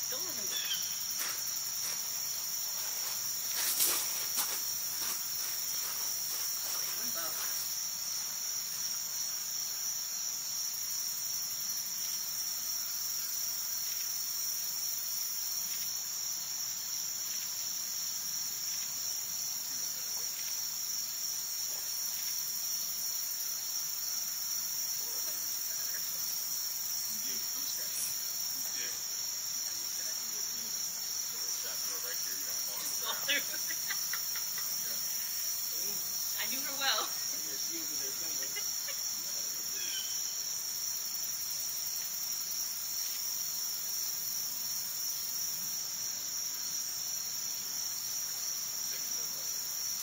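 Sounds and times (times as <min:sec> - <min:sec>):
insects chorus: 0:00.0 - 0:50.0.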